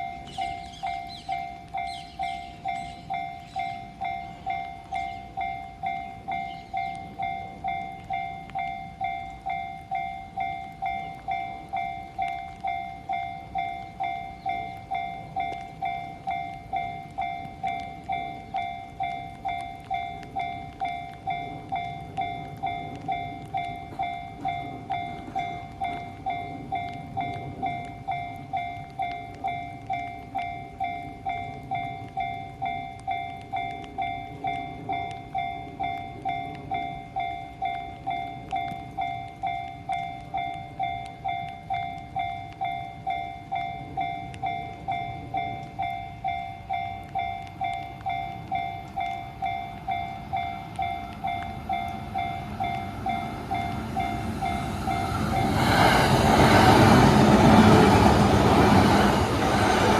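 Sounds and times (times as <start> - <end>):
level crossing warning bell: 0.0 - 59.9
low rumble of approaching train: 0.0 - 59.9.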